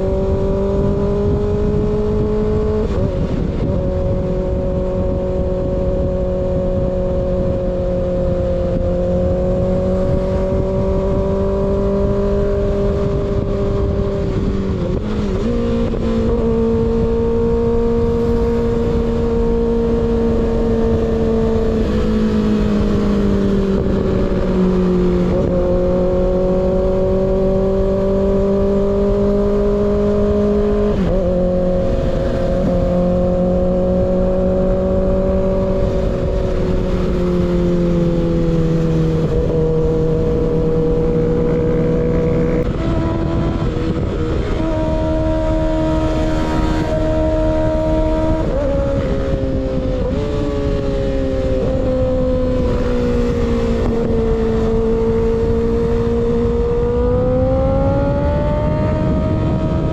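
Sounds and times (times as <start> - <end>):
motorcycle engine running: 0.0 - 59.9
wind rushing: 0.0 - 59.9.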